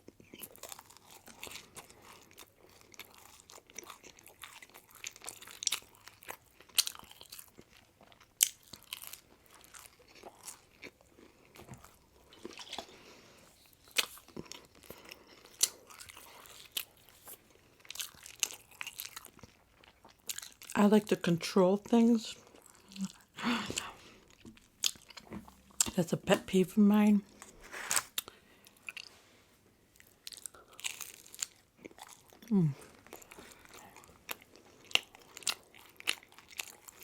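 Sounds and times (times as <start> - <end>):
person chewing crunchy food: 0.0 - 20.8, 22.3 - 26.0, 27.3 - 37.0.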